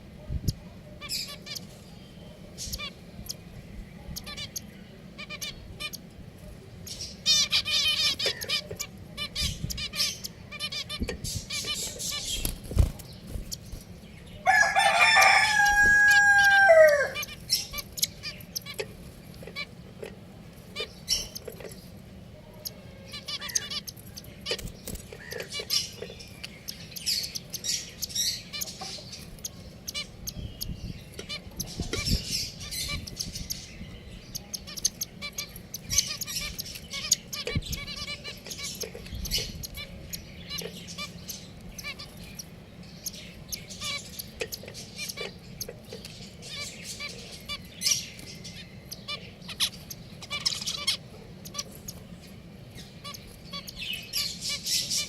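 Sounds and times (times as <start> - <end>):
finches chirping: 0.4 - 6.1, 6.8 - 55.0.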